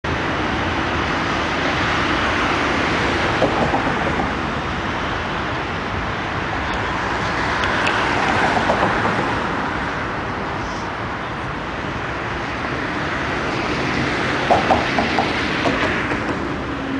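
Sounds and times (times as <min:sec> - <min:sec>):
city road traffic: 0:00.0 - 0:16.9
vehicles passing: 0:00.1 - 0:16.9.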